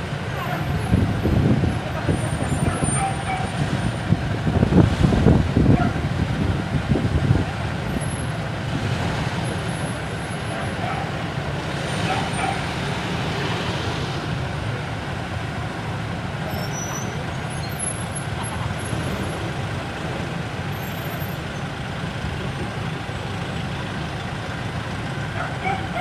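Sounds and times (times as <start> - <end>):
vehicles driving past: 0.0 - 26.0.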